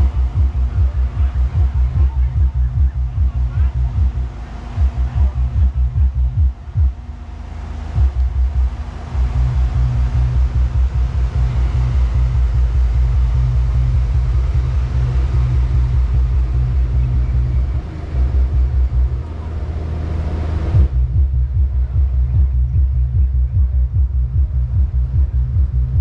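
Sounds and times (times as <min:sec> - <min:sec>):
loud pulsing bass from speakers: 0:00.0 - 0:26.0.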